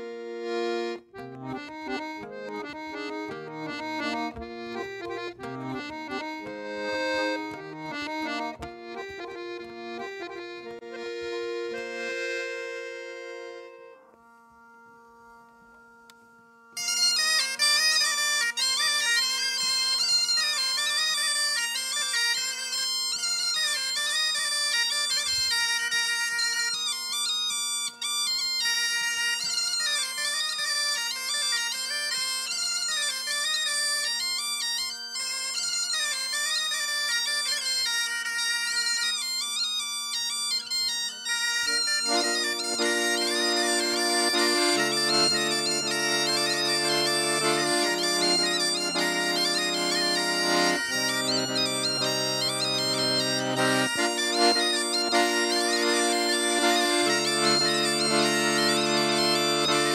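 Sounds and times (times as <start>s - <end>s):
bagpipe dance melody: 0.0s - 59.9s
bagpipe drones: 0.0s - 59.9s.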